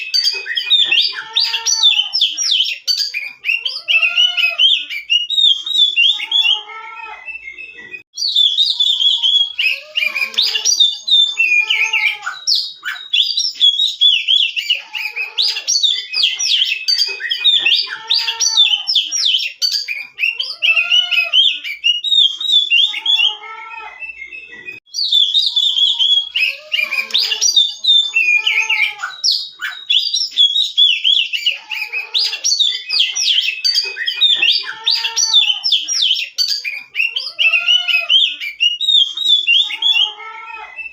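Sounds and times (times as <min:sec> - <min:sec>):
songbird whistles and trills: 0:00.0 - 0:06.6, 0:07.2 - 0:23.4, 0:24.0 - 0:40.2.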